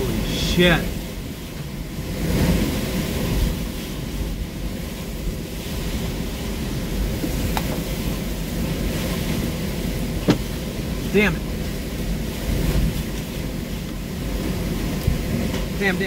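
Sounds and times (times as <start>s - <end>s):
wind and rain buffeting vehicle: 0.0s - 16.0s.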